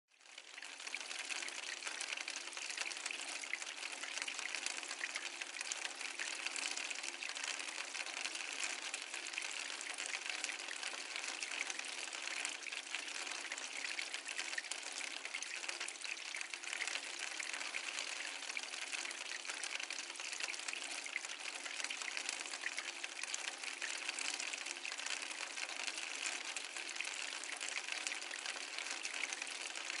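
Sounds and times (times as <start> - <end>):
rain falling on a roof: 0.1 - 30.0.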